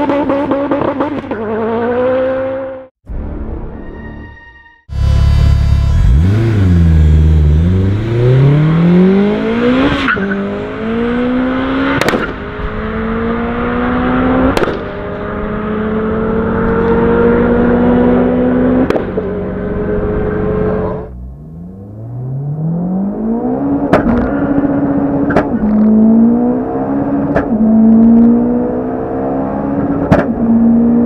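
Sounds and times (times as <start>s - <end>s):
car engine accelerating hard: 4.9s - 31.0s.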